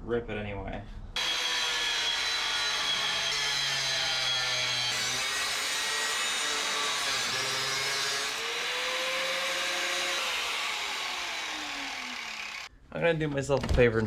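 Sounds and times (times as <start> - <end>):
reciprocating saw cutting metal: 1.2 - 12.7.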